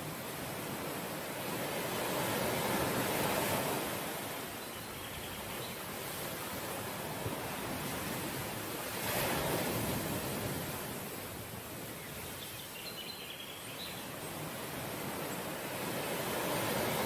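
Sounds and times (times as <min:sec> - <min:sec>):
sea: 0:00.0 - 0:17.0
wind: 0:00.0 - 0:17.0.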